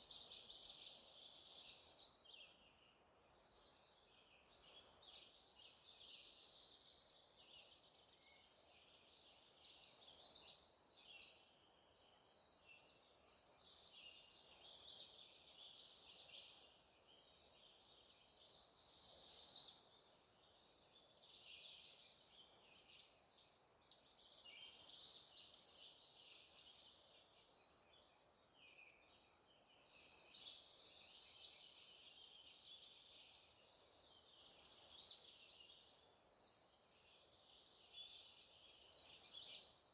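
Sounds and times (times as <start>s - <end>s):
loud bird song phrase: 0.0s - 39.9s.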